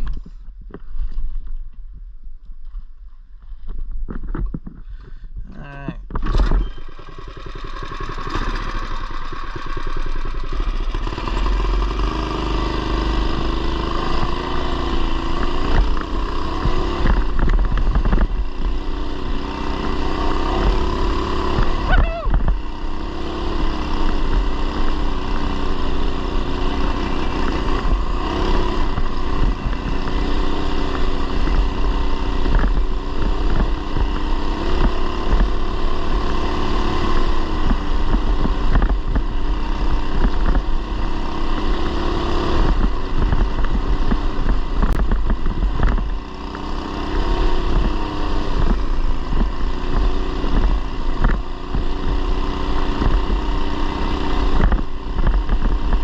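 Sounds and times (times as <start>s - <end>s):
mini bike engine revving: 5.7s - 56.0s.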